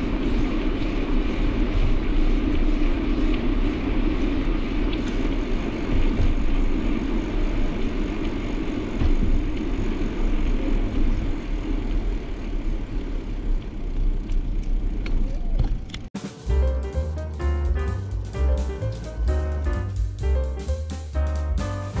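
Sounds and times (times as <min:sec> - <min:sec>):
moving car rumble: 0:00.0 - 0:20.7.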